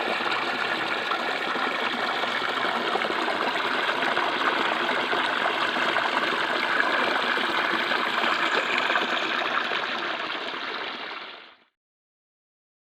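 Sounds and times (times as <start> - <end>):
stream water babbling over stones: 0.0 - 11.3.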